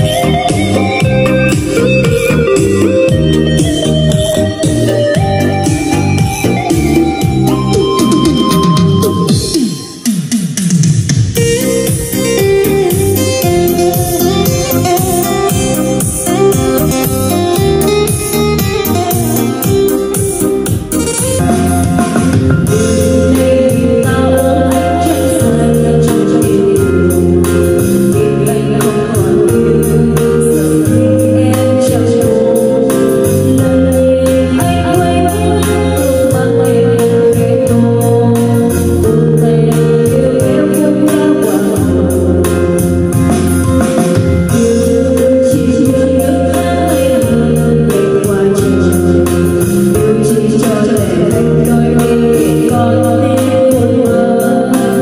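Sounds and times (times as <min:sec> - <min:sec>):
woman singing karaoke: 0:00.0 - 0:10.0, 0:11.4 - 0:55.0
backing track with bass line: 0:00.0 - 0:55.0.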